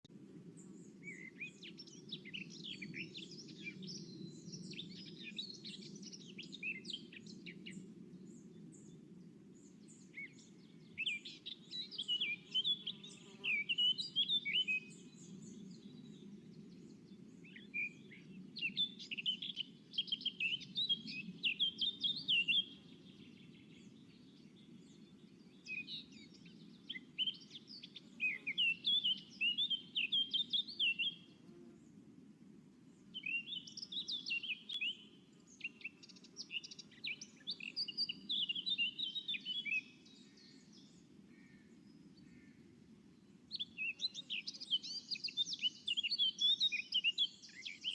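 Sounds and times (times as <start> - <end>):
songbirds chirping and trilling: 0.1 - 32.0, 32.7 - 47.9.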